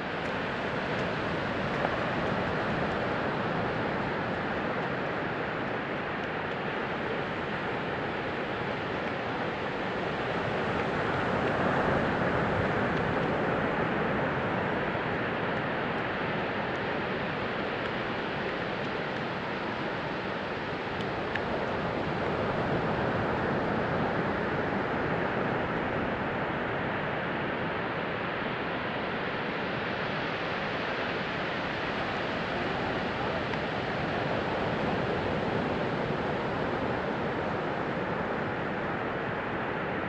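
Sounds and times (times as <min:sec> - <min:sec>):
sea surf washing onto beach: 0:00.0 - 0:40.0.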